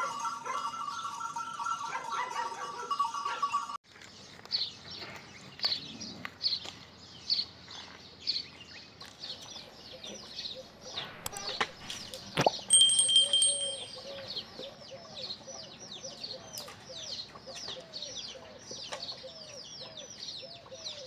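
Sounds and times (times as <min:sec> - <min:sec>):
bird chirping: 0:04.1 - 0:21.0.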